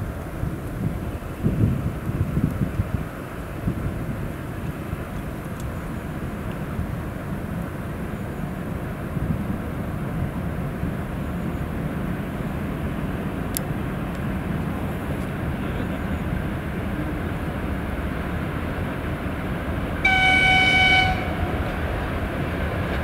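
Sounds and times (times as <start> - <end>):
locomotive rumbling: 0.0 - 23.0.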